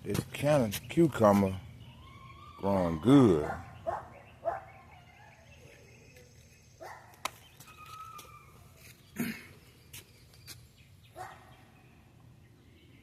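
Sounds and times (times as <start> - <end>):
farmyard bird calls: 0.0 - 13.0.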